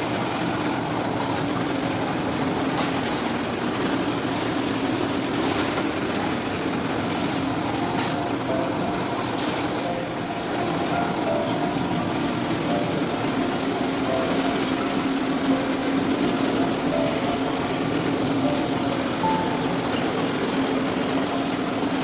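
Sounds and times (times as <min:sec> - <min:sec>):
sorting machine rollers rattling: 0:00.0 - 0:22.0.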